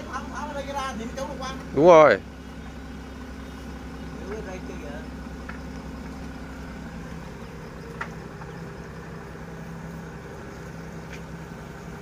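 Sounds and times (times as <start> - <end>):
forklift engine idling: 0.0 - 12.0.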